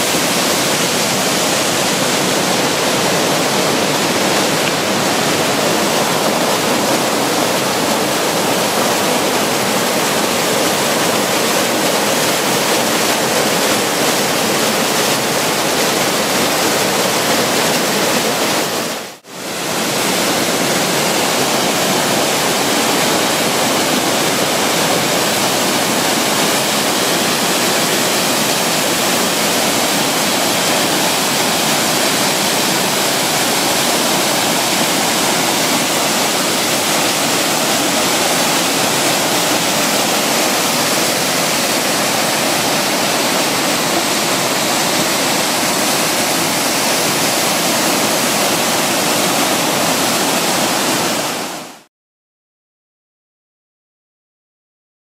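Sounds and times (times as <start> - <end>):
waterfall crashing: 0.0 - 51.9.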